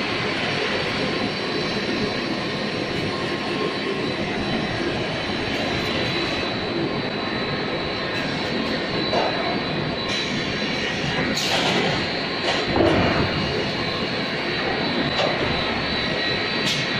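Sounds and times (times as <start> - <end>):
high steady whine: 0.0 - 16.9.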